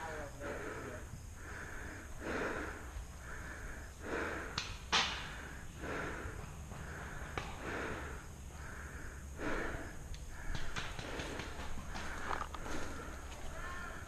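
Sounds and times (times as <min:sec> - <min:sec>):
heavy breathing: 0:00.0 - 0:14.0.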